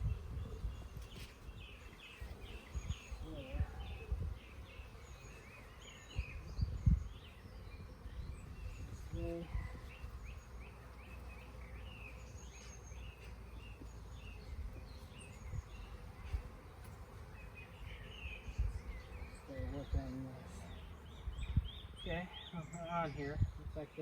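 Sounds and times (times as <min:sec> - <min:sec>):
small birds chirping and calling: 0:00.0 - 0:24.0.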